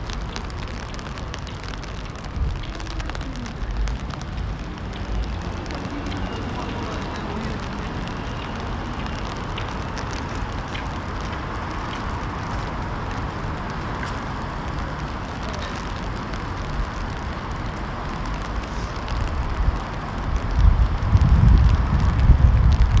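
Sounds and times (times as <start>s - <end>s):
light rain hissing on pavement: 0.0s - 23.0s
low city rumble: 0.0s - 23.0s
small rain ticks: 0.0s - 23.0s.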